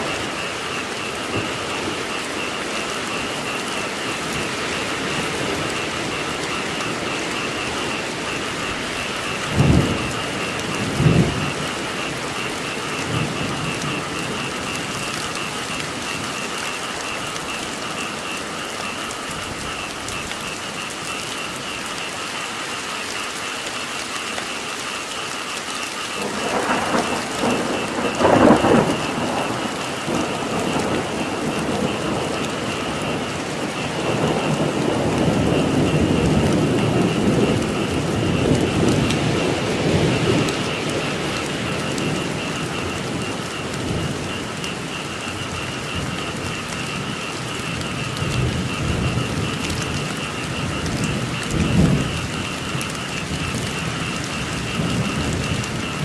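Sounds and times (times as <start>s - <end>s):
thunder rolling: 0.0s - 22.3s, 26.0s - 56.0s
high chorus of frogs: 0.0s - 56.0s
steady rain: 0.0s - 56.0s.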